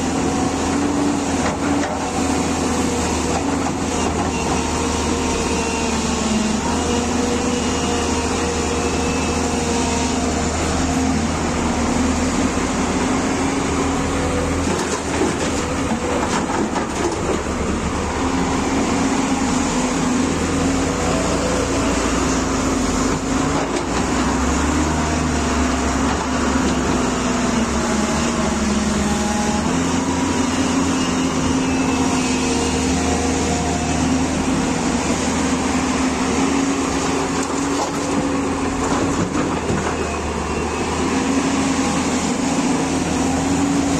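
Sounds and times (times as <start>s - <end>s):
excavator diesel engine running: 0.0s - 43.9s
hydraulic and digging noise: 0.0s - 43.9s.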